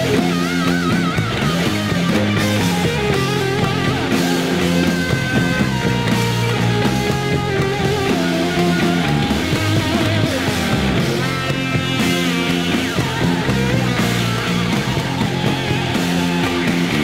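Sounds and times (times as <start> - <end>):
blues-rock band playing: 0.0 - 17.0.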